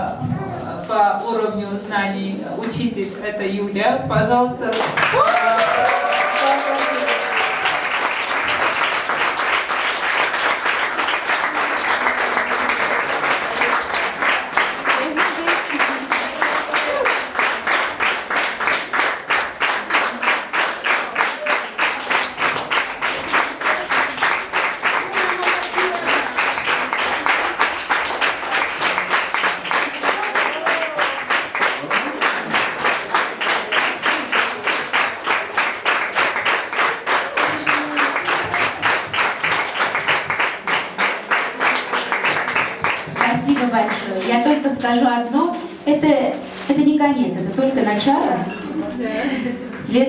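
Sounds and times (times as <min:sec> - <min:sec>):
audience clapping in unison: 0:04.6 - 0:45.0.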